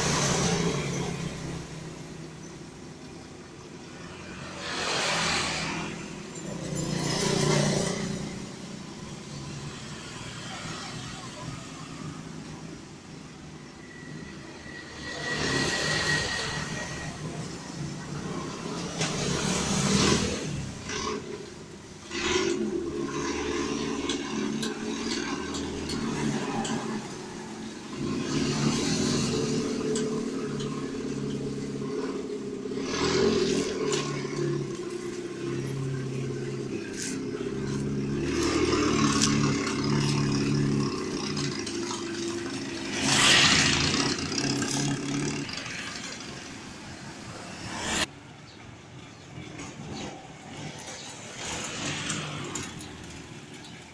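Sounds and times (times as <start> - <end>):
vehicle engine running and revving: 0.0 - 3.3, 3.9 - 13.2, 14.6 - 48.1.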